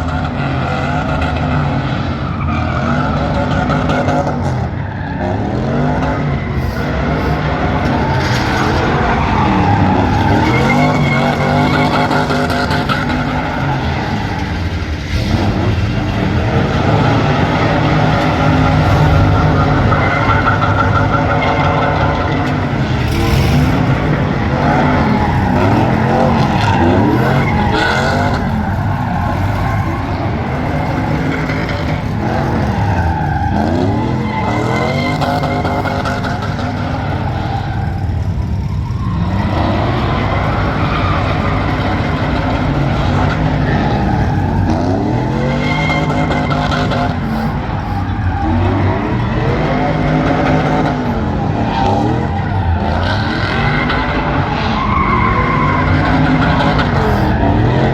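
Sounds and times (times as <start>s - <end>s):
truck engine revving: 0.0s - 57.9s
tyres squealing: 1.9s - 57.9s.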